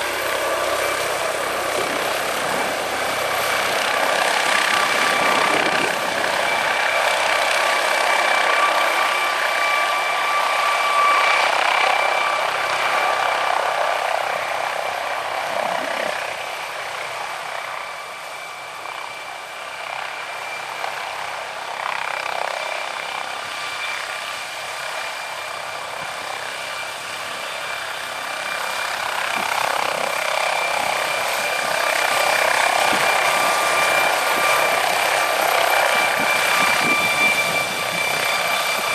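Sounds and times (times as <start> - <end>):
helicopter turbine engines whining: 0.0 - 38.9.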